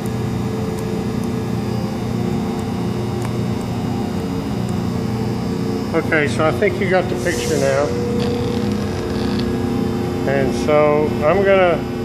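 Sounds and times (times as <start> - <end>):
stepper motor electrical hum: 0.0 - 12.0.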